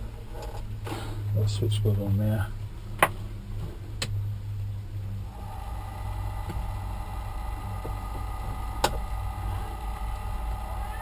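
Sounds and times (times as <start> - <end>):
electric fan whining: 0.0 - 11.0
low hum: 0.0 - 11.0.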